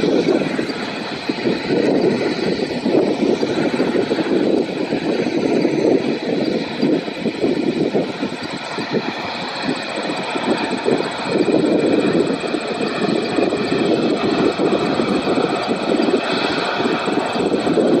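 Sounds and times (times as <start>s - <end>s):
jet engines at takeoff thrust: 0.0s - 18.0s.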